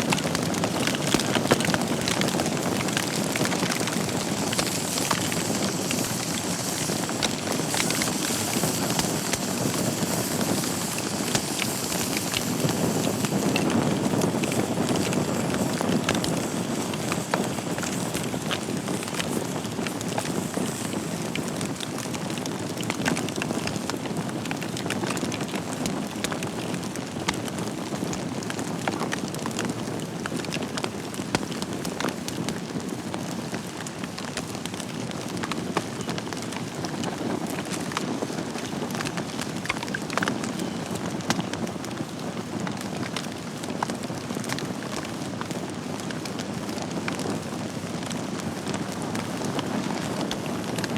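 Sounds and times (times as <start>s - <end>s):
logs crackling and popping: 0.0s - 50.9s
wood fire burning: 0.0s - 50.9s.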